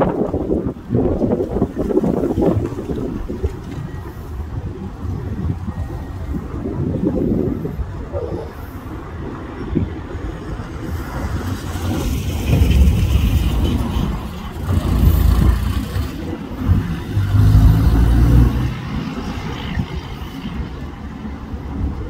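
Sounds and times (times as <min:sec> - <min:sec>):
jet engines rumbling overhead: 0:02.5 - 0:22.0.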